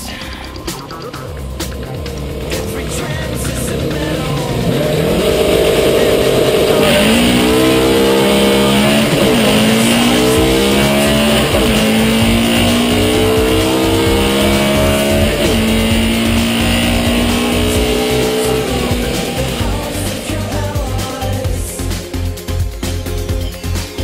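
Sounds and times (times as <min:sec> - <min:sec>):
car engine at full throttle: 0:00.0 - 0:24.0.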